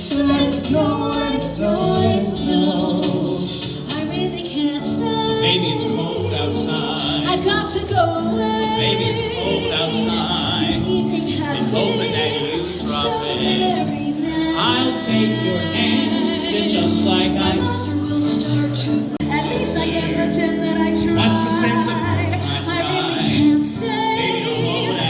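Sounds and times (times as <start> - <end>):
instrumental accompaniment: 0.0 - 25.0
voices singing christmas song: 0.0 - 25.0.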